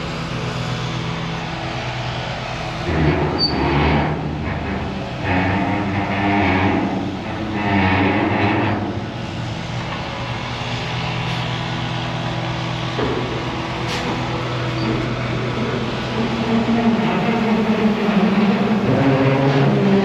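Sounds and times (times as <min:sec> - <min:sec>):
heavy equipment engine running: 0:00.0 - 0:20.0.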